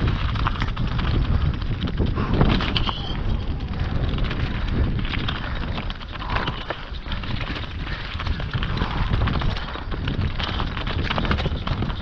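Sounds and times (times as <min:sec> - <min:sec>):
bike knocks and rattles: 0:00.0 - 0:12.0
wind buffeting microphone: 0:00.0 - 0:12.0.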